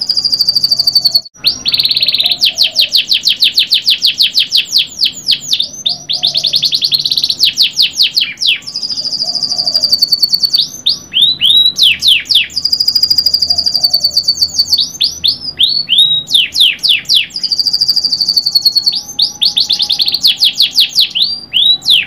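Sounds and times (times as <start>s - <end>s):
canary singing trills: 0.0s - 22.0s.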